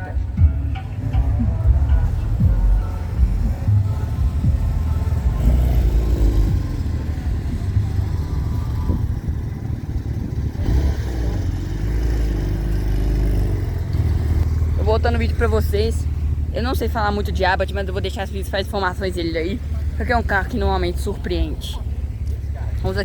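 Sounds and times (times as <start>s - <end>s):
car engine deep rumble: 0.0s - 23.0s.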